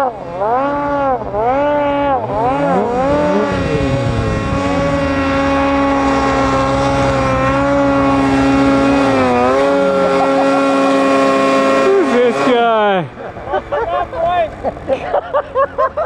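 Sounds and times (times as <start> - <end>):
snowmobile engine at high revs: 0.0 - 16.0.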